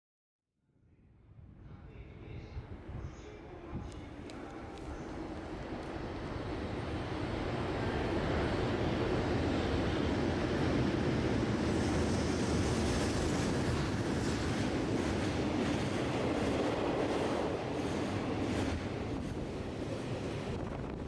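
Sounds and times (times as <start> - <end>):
freight train wheels rumbling: 3.7 - 21.0.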